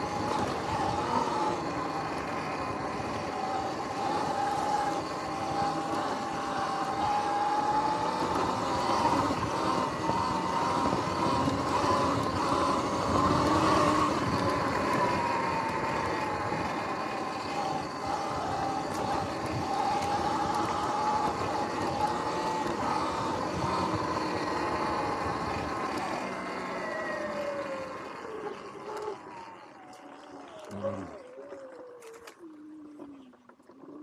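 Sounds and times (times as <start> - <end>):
electric motorbike motor whining: 0.0 - 34.0.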